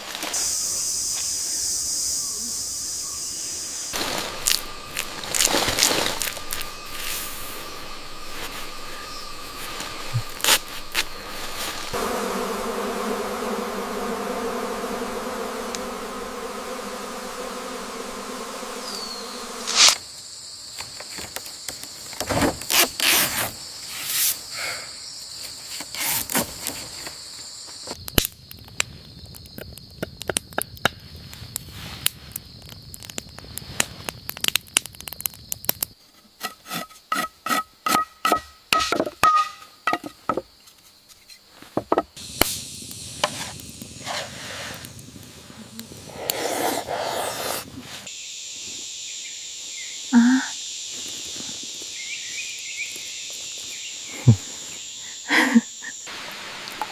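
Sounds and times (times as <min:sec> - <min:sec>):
insects buzzing and chirring: 0:00.0 - 0:56.9.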